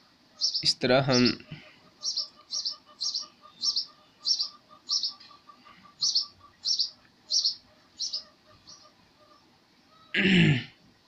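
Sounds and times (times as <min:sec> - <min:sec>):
small bird chirping: 0:00.3 - 0:10.2.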